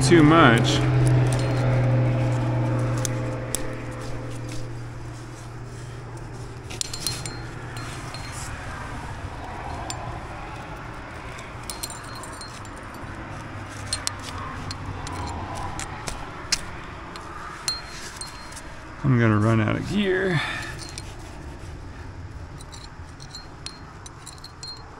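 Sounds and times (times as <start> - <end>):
metal climbing gear clinking: 0.0 - 19.1, 20.2 - 24.9.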